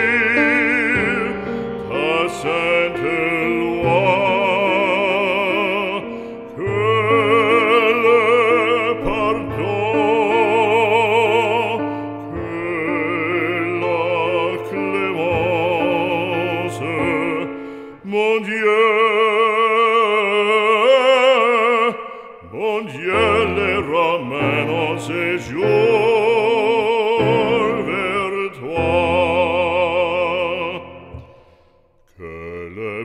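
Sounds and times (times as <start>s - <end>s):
operatic voice singing: 0.0s - 31.4s, 32.1s - 33.0s.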